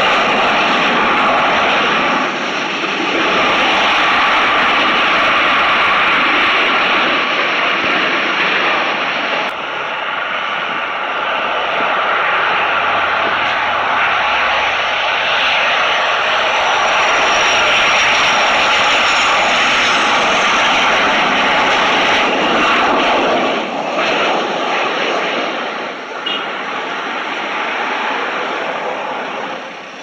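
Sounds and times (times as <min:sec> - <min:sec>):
high jet whine sliding downward: 0:00.0 - 0:30.0
jet engines rushing: 0:00.0 - 0:30.0.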